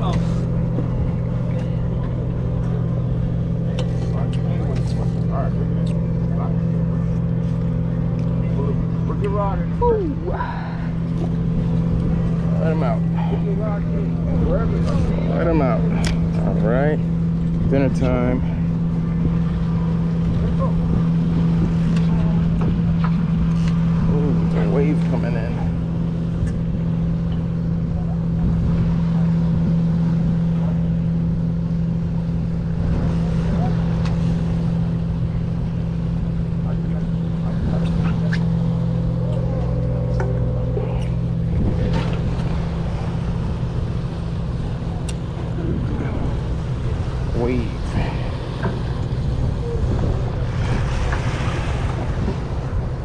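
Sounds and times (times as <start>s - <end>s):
boat engine droning: 0.0s - 53.0s
water washing against hull: 0.0s - 53.0s
wind buffeting microphone: 0.0s - 53.0s.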